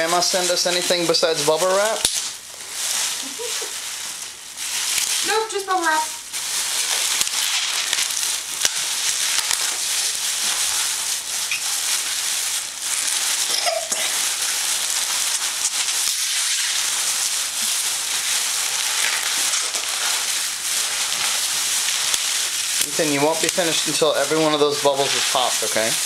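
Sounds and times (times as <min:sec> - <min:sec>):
bubble wrap crinkling: 0:00.0 - 0:26.0
bubble wrap popping: 0:00.0 - 0:26.0.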